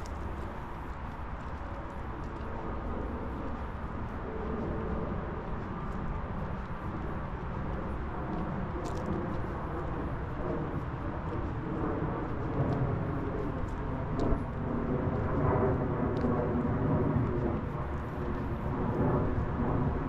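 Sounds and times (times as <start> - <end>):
faint ticks: 0.0 - 16.6
outdoor background rumble: 0.0 - 20.0.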